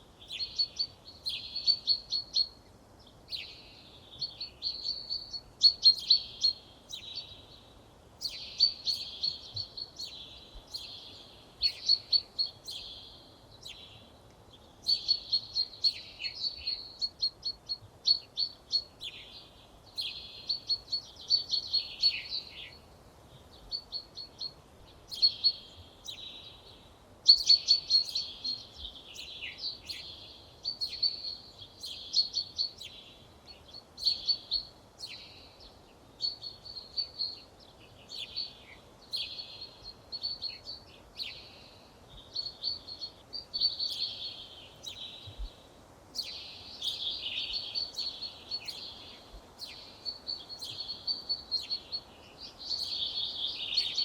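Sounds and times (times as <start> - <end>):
faint background hiss: 0.0 - 54.0
songbirds trilling and chirping: 0.0 - 54.0.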